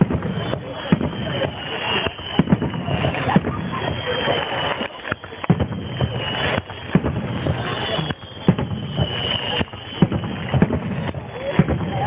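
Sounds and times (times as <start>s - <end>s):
fireworks booming: 0.0s - 12.0s
steady noisy rush: 0.0s - 12.0s.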